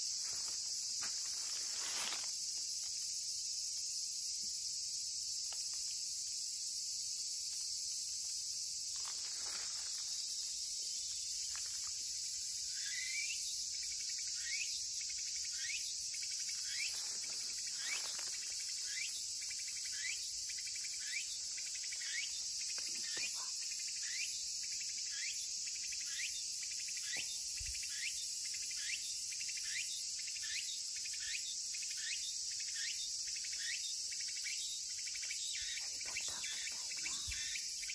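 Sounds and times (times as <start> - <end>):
cicada chorus: 0.0 - 37.9
cicada repeating rising phrases: 0.0 - 37.9.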